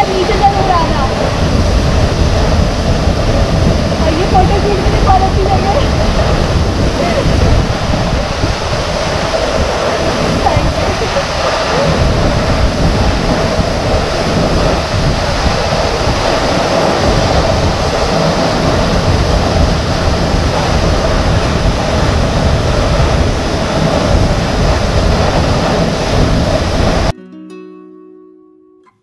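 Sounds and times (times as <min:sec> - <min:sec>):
waterfall roaring: 0:00.0 - 0:27.1.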